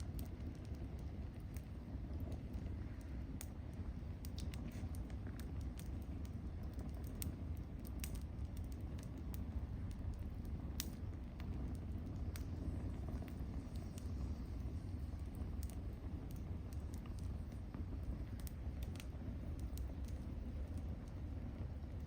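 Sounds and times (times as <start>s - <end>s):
firewood crackling: 0.0s - 22.0s.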